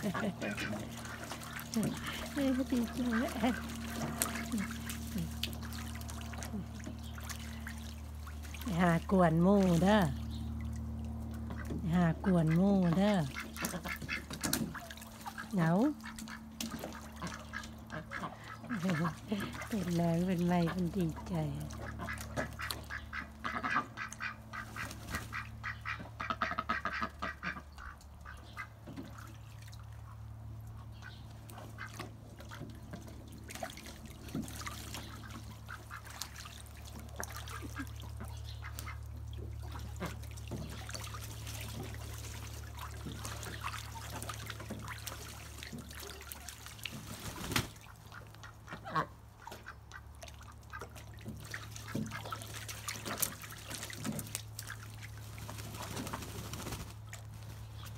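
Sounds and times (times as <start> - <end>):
ducks quacking: 0.0 - 57.9
ducks splashing in water: 0.0 - 57.9
steady low hum: 0.0 - 57.9.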